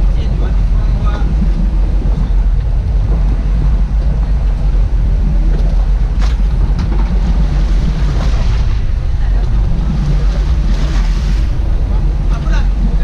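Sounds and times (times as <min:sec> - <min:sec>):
boat engine drone: 0:00.0 - 0:13.0
water rushing: 0:00.0 - 0:13.0
wind buffeting microphone: 0:00.0 - 0:13.0.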